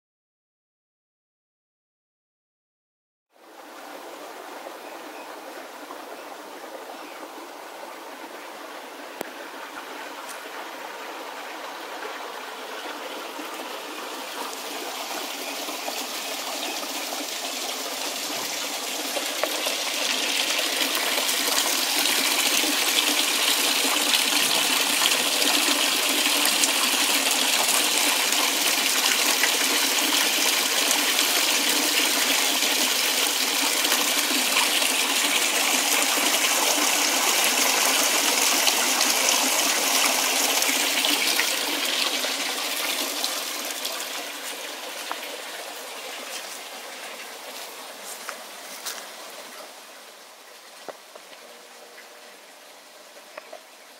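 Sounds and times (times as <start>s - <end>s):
water rushing over weir: 3.4s - 49.8s.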